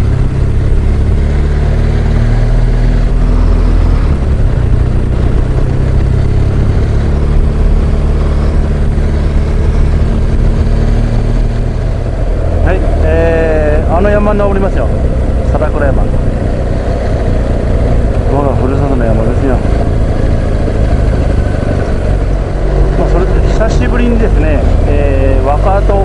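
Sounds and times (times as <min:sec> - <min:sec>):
motorcycle engine rumbling: 0:00.0 - 0:26.0
road noise: 0:00.0 - 0:26.0
rushing wind: 0:00.0 - 0:26.0.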